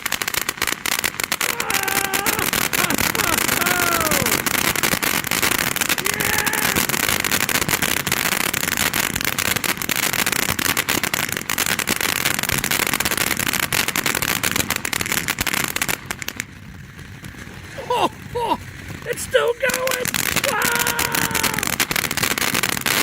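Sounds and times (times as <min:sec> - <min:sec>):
firework fountain hissing crackle: 0:00.0 - 0:23.0.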